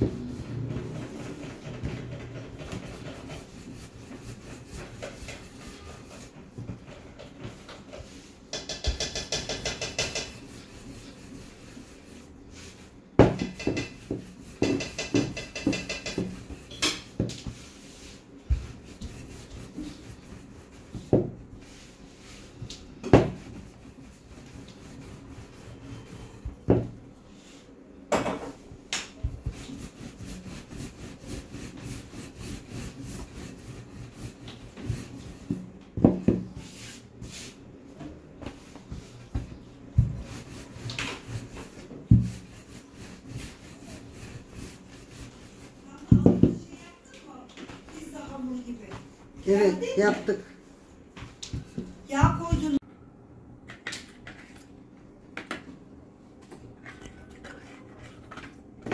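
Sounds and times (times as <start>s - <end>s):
dough rubbing on wooden table: 0.0s - 27.6s, 28.6s - 52.8s.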